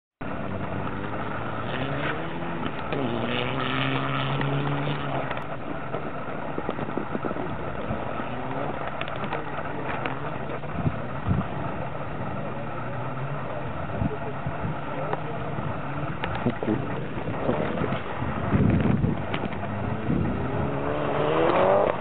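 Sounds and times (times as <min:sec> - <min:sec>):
rally car engine revving: 0:00.2 - 0:22.0.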